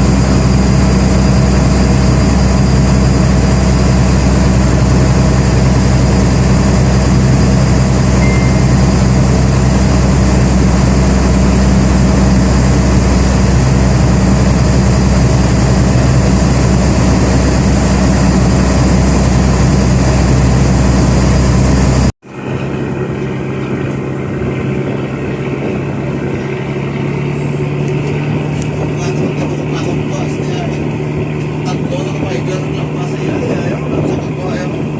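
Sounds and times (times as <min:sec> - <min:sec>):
boat engine droning: 0:00.0 - 0:34.9
quieter engine hum: 0:00.0 - 0:34.9.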